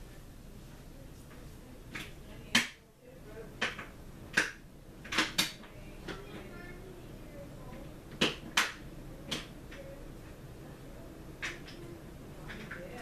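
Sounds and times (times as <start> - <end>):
ceiling fan whirring: 0.0 - 13.0.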